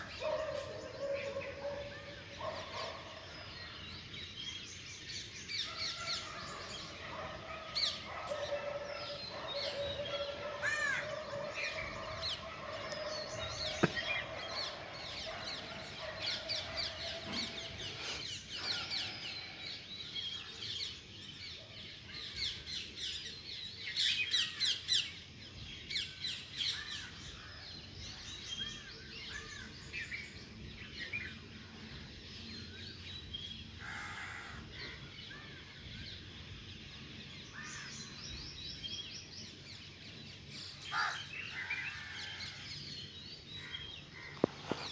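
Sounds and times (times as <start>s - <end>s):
birds chirping in chorus: 0.0s - 44.9s.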